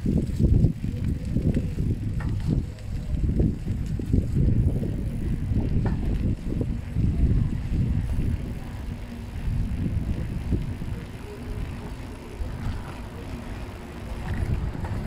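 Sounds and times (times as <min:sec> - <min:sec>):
bicycle clicks and rattles: 0:00.0 - 0:15.0
road rumble: 0:00.0 - 0:15.0
wind buffeting microphone: 0:00.0 - 0:15.0.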